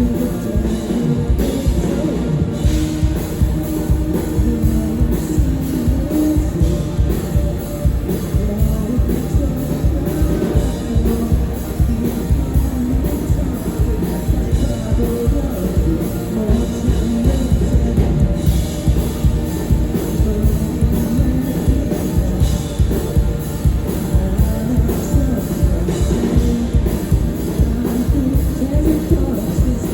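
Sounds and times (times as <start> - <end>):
drum kit beat: 0.0 - 29.9
live rock band playing: 0.0 - 29.9.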